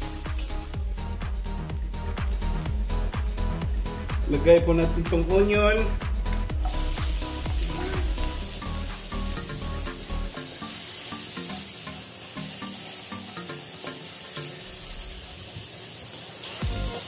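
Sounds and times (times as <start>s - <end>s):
vegetables sizzling in hot oil: 0.0s - 4.2s, 6.3s - 17.0s
background music: 0.0s - 15.4s, 16.5s - 17.0s.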